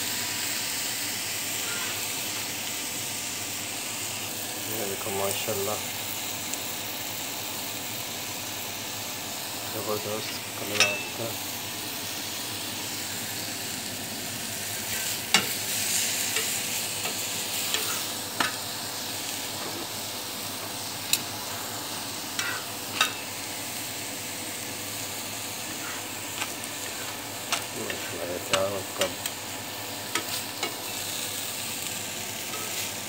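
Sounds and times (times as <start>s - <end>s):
food sizzling on a griddle: 0.0s - 33.0s.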